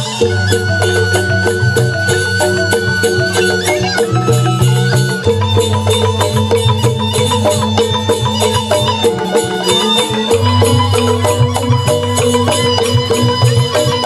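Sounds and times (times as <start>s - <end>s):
bamboo flutes: 0.0s - 14.0s
metallophones ringing fast: 0.0s - 14.0s.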